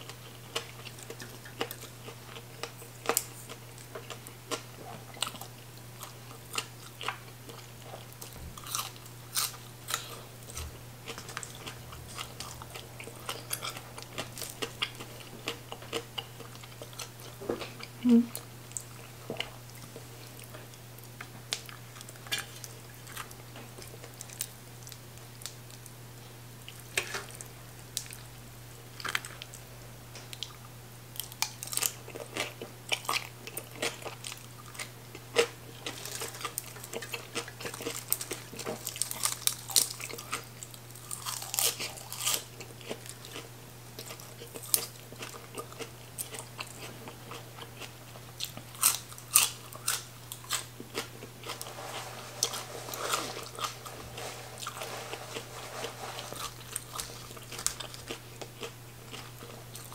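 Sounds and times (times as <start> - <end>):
person chewing and crunching food: 0.0 - 26.0, 28.9 - 29.6, 30.2 - 59.9
steady low hum: 0.0 - 31.3, 43.0 - 59.9.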